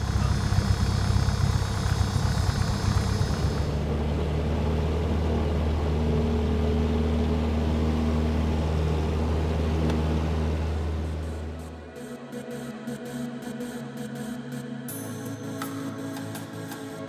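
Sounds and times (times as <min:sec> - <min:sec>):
propeller plane engine in cabin: 0:00.0 - 0:17.0.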